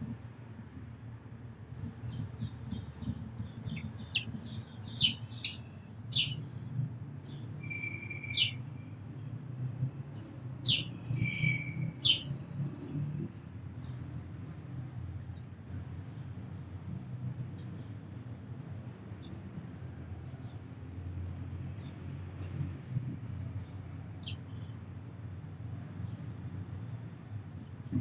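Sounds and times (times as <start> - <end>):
small birds chirping: 0.6 - 25.1.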